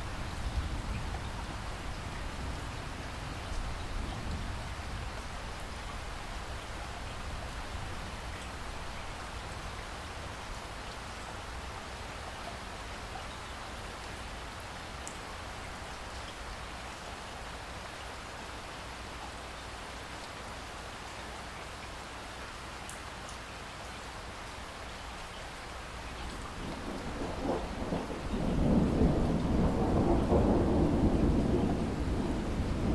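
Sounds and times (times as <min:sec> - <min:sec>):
rain pattering on surfaces: 0:00.0 - 0:32.9.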